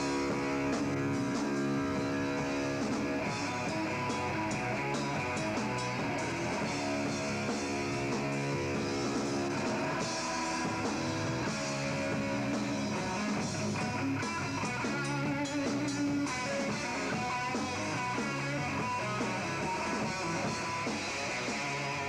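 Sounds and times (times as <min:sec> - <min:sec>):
drum kit: 0:00.0 - 0:22.0
electric guitar: 0:00.0 - 0:22.0.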